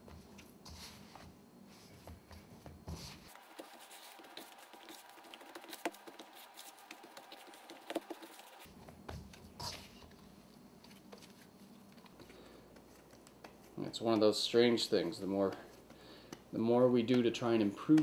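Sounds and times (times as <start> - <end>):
hands squishing dough: 0.0 - 18.0.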